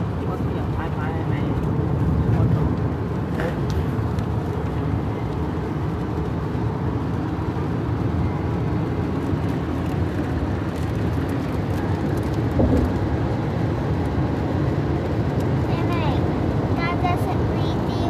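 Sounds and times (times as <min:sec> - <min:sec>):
vehicle low rumble: 0:00.0 - 0:18.0.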